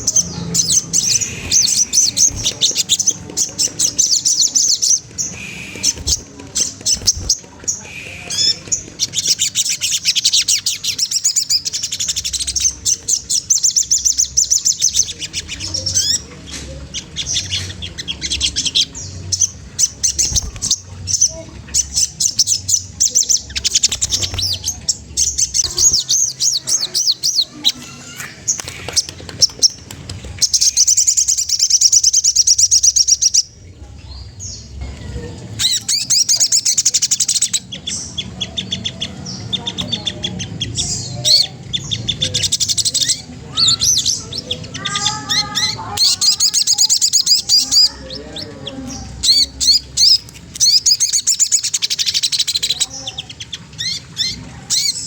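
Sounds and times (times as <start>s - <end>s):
songbird chattering trills: 0.0s - 29.8s, 35.5s - 55.0s
bird warbled phrases: 0.0s - 55.0s.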